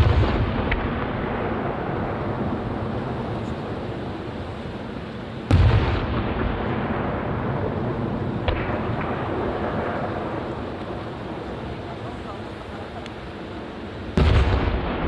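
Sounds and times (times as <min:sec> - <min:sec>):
fireworks sharp bang: 0:00.0 - 0:04.4, 0:05.5 - 0:12.4, 0:14.0 - 0:15.0
fireworks deep boom: 0:00.0 - 0:12.4, 0:13.6 - 0:15.0
steady wash of noise: 0:00.0 - 0:14.2.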